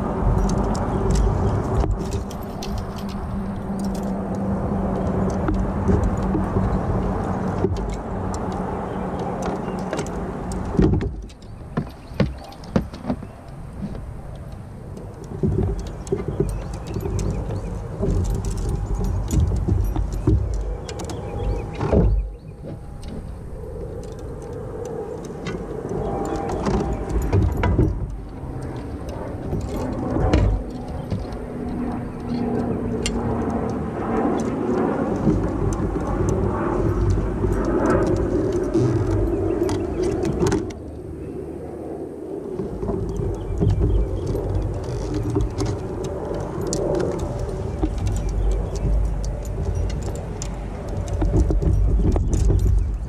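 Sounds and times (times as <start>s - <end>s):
gear clicking and knocking: 0.0s - 41.0s, 42.6s - 53.0s
low motor hum: 0.0s - 53.0s
steady low rumble: 0.0s - 53.0s.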